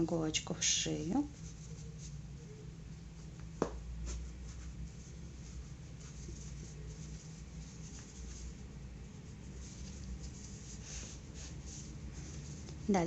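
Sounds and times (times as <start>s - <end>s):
needle and yarn rustling: 0.0s - 13.0s.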